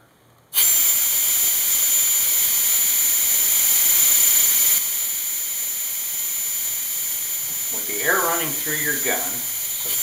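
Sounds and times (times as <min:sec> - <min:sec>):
compressed air hissing with whistle: 0:00.6 - 0:10.0.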